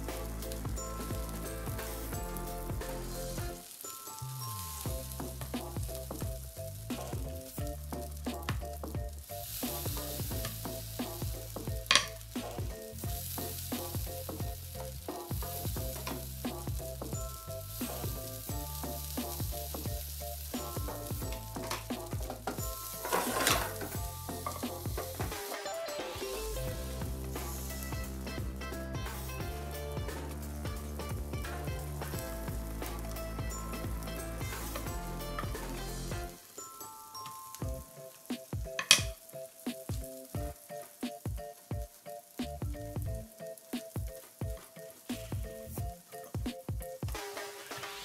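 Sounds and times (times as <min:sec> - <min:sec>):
oil sizzling in a frying pan: 0:00.0 - 0:46.4, 0:47.0 - 0:48.0.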